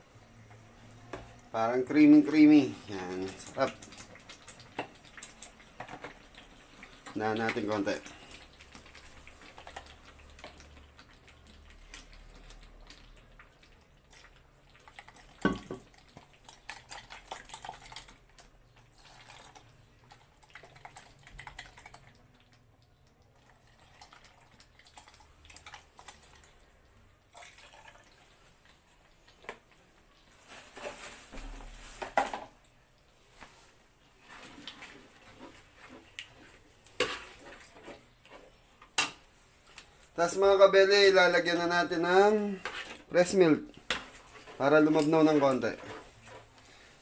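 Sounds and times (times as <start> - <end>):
sauce simmering with popping: 0.1 - 47.0.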